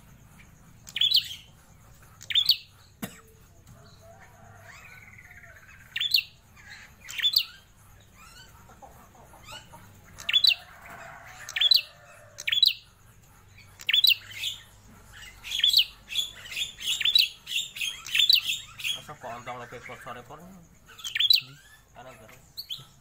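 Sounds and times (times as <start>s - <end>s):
songbird calling: 0.0s - 23.0s.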